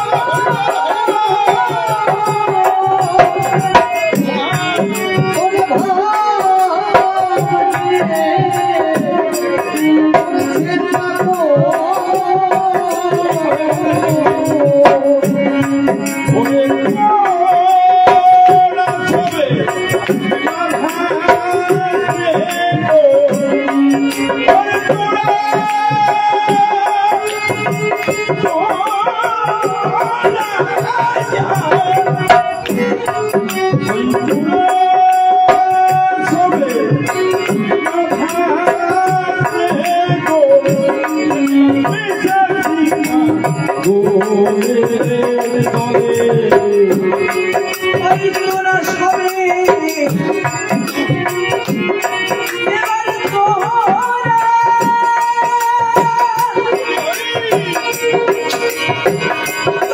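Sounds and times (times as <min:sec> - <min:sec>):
drum beating steady rhythm: 0:00.0 - 0:59.9
harmonium: 0:00.0 - 0:59.9
man singing into a microphone: 0:00.0 - 0:59.9
rattling percussion: 0:00.0 - 0:59.9.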